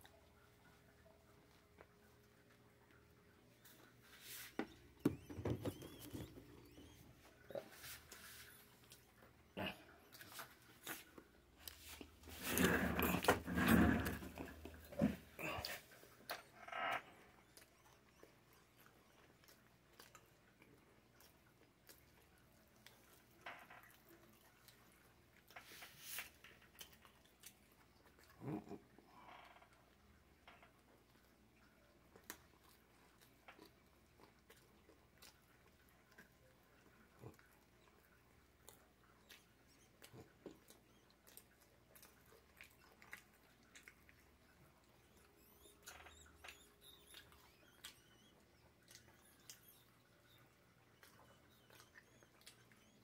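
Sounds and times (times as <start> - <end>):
faint chewing: 0.0 - 53.0.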